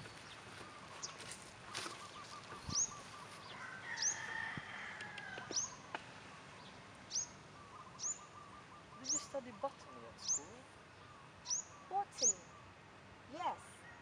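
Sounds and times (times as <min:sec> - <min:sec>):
lower repeated bird notes: 0:00.0 - 0:04.3, 0:05.1 - 0:12.8
faint calls of other birds: 0:00.0 - 0:14.0.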